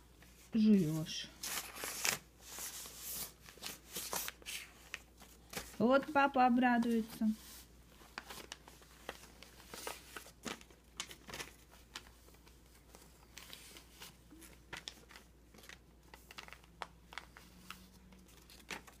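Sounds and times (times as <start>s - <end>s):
paper rustling and crinkling: 0.1s - 6.2s, 6.8s - 19.0s.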